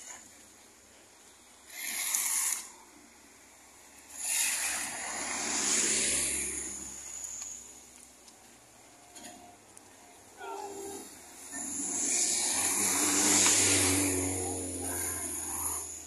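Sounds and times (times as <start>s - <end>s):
tyres hissing on wet road: 0.0s - 9.4s, 10.6s - 16.0s.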